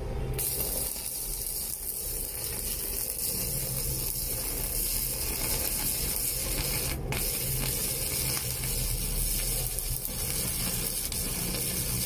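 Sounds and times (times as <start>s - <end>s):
welding arc sizzling hiss: 0.0s - 12.0s.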